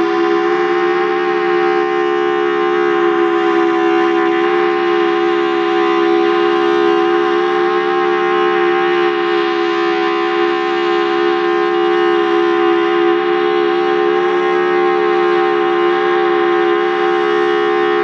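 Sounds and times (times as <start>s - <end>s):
second siren: 0.0s - 18.0s
siren steady alert tone: 0.0s - 18.0s.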